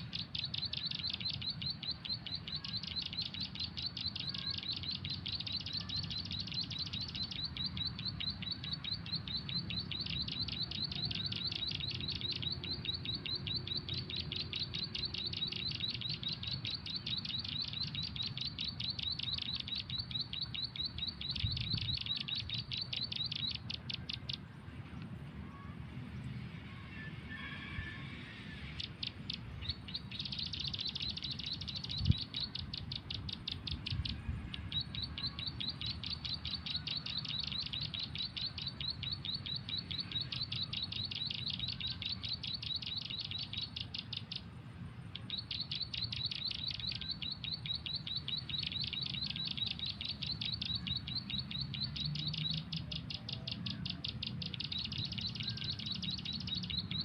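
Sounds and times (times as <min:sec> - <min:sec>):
bird chirping rapidly: 0:00.0 - 0:24.6, 0:25.5 - 0:57.0.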